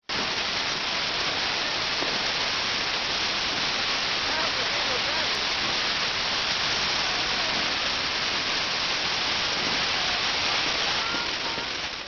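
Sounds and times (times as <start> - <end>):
fireworks hissing: 0.0 - 12.0.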